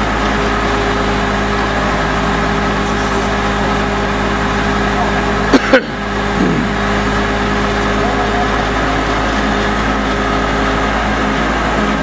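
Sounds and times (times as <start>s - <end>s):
drilling rig engine humming: 0.0s - 12.0s.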